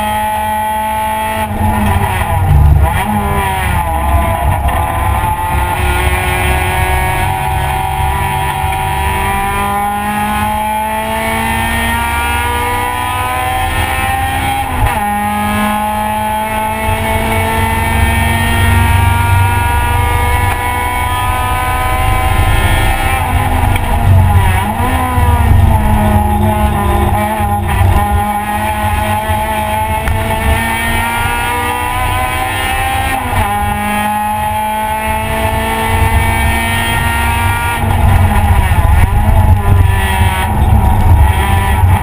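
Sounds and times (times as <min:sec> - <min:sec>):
car engine revving: 0:00.0 - 0:42.0
road and wind rumble: 0:00.0 - 0:42.0.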